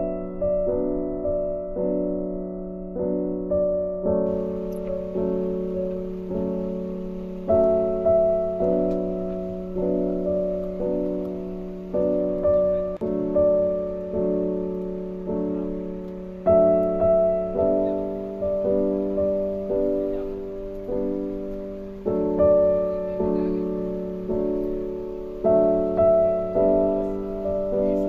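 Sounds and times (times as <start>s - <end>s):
slow piano chords: 0.0s - 28.0s.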